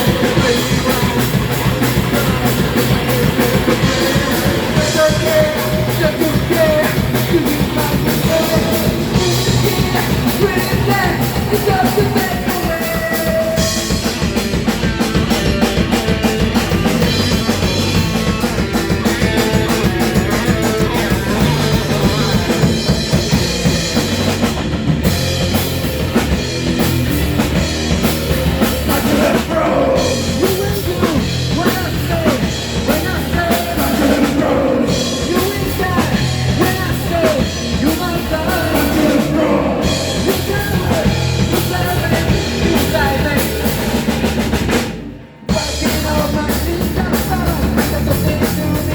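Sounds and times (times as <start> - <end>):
bending lead guitar line: 0.0 - 48.9
pounding drum kit: 0.0 - 48.9
rock band playing: 0.0 - 48.9.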